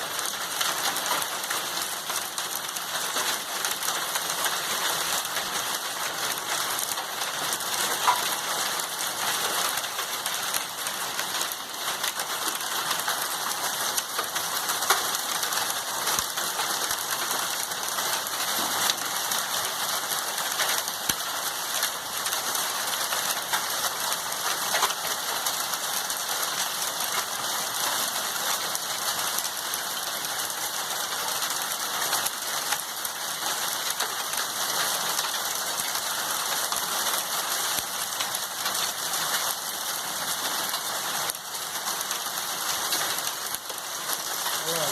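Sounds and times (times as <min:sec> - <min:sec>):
hail ticking on hard surfaces: 0:00.0 - 0:44.9
heavy rain: 0:00.0 - 0:44.9.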